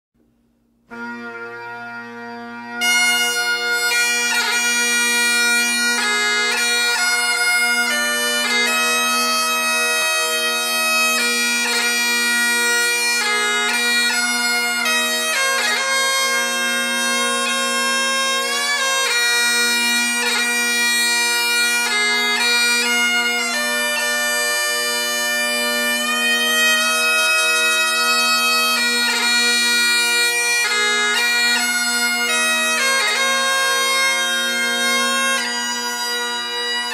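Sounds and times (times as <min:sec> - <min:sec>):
bagpipe chanter melody: 0:00.8 - 0:36.9
bagpipe drones: 0:00.8 - 0:36.9.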